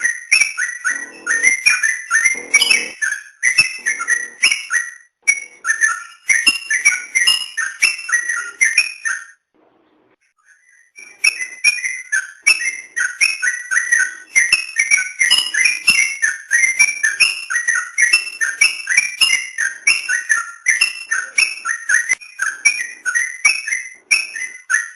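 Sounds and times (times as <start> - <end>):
bird singing bubbly whistles: 0.0 - 9.4, 10.4 - 24.9.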